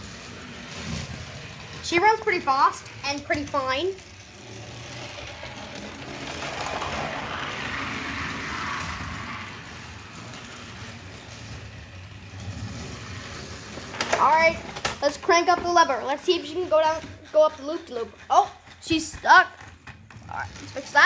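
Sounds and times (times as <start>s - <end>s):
toy train motor whirring: 0.0s - 21.0s.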